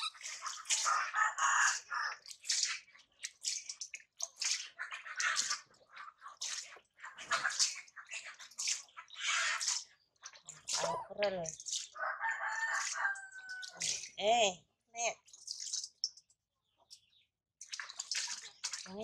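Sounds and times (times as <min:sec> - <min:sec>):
water splashing in basin: 0:00.0 - 0:17.0, 0:17.6 - 0:19.0
water trickling: 0:00.0 - 0:19.0.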